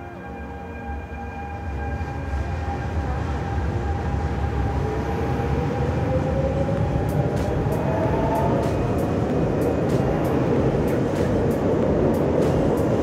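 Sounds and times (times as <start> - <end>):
train rolling rumble: 0.0 - 13.0.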